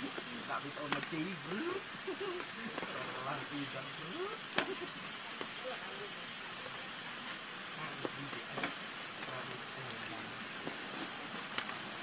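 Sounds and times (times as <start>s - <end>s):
rain falling on leaves: 0.0s - 12.0s.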